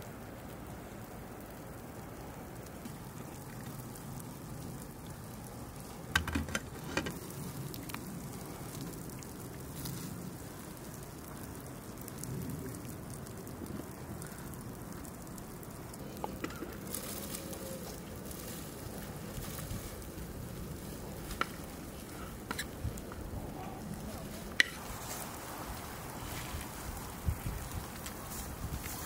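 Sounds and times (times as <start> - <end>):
pot bubbling: 0.6 - 29.0.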